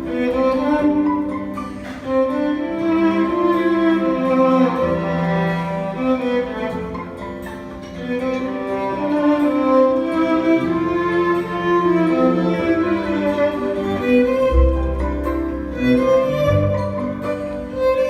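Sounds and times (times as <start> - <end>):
low string accompaniment: 0.0 - 18.0
violin slow melody: 0.0 - 18.0.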